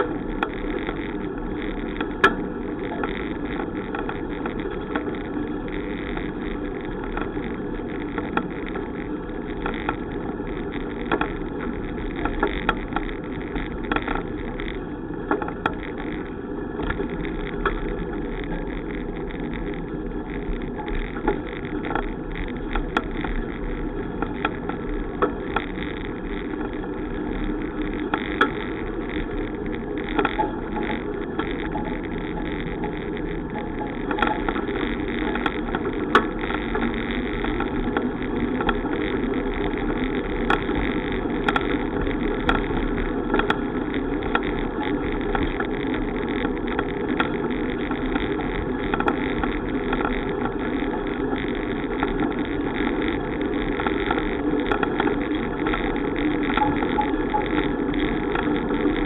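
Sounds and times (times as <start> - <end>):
bicycle tyre noise: 0.0 - 59.0
small clicks and rattles: 0.0 - 59.0.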